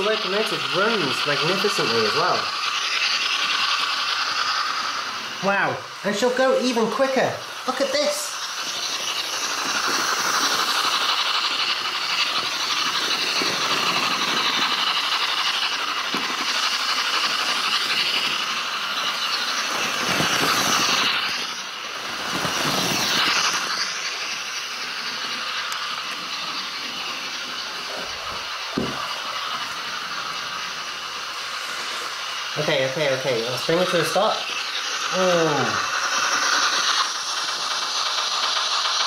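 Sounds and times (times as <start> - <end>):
model steam locomotive chuffing: 0.0 - 39.0
model train wheels on track: 0.0 - 39.0.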